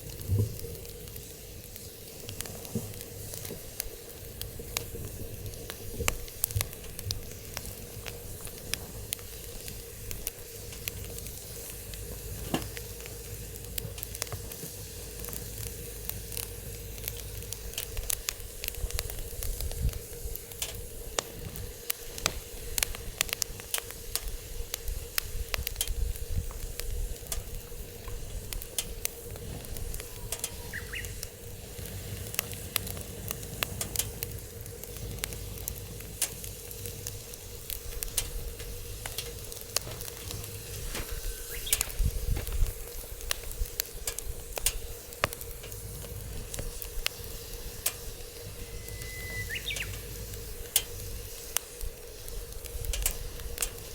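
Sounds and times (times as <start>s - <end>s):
hiss of burning: 0.0s - 53.9s
wood fire crackling and popping: 0.0s - 53.9s.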